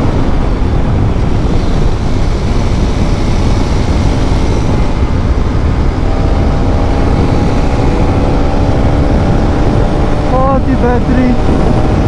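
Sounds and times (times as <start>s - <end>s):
motorcycle engine hum: 0.0s - 12.0s
wind rush on microphone: 0.0s - 12.0s.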